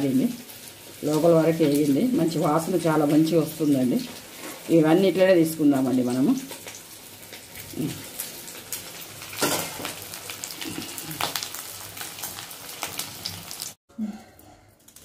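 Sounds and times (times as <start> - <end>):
fish deep-frying in oil: 0.0 - 13.8.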